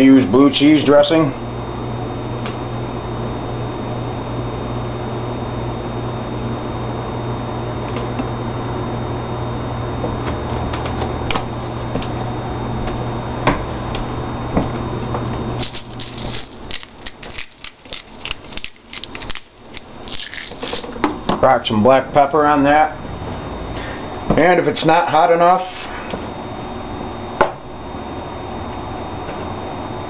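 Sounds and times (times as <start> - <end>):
steady electric hum: 0.0 - 30.0.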